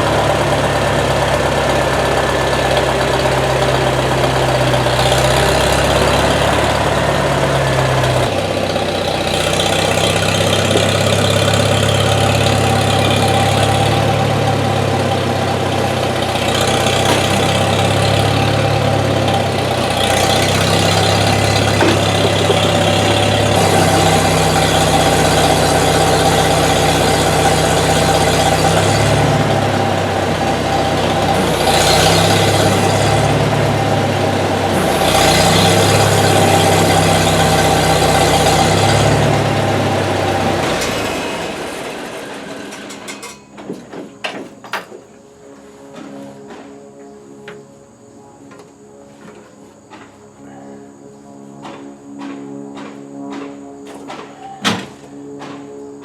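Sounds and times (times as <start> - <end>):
vehicle engine running: 0.0 - 50.4.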